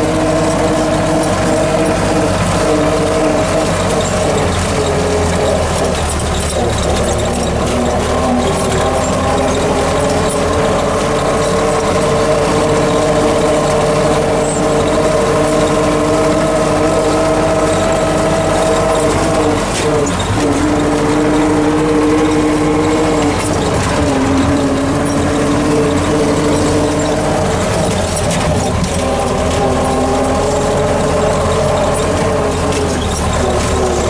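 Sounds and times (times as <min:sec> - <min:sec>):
steady whine: 0:00.0 - 0:34.0
tractor diesel engine running: 0:00.0 - 0:34.0.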